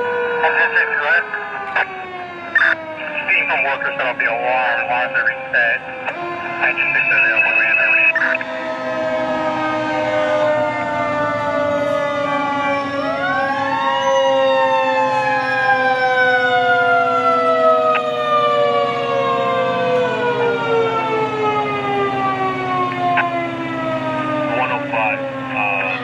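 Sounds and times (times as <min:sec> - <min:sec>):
fire engine sirens wailing: 0:00.0 - 0:26.0
low engine drone: 0:00.4 - 0:26.0.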